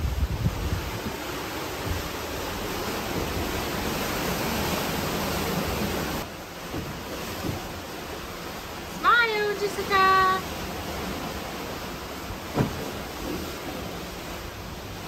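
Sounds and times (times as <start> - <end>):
wind and sea rushing: 0.0 - 15.0.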